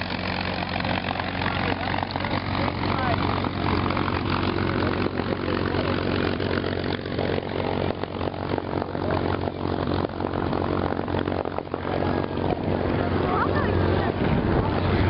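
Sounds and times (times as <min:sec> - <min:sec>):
propeller plane engine overhead: 0:00.0 - 0:15.0.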